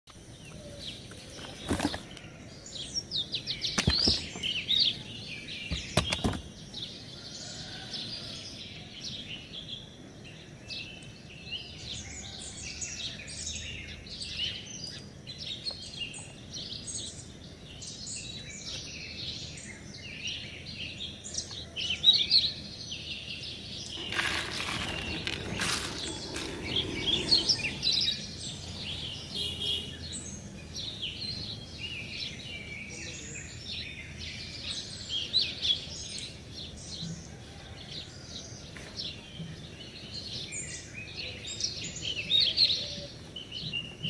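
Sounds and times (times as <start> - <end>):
small birds chirping: 0.1 - 37.4.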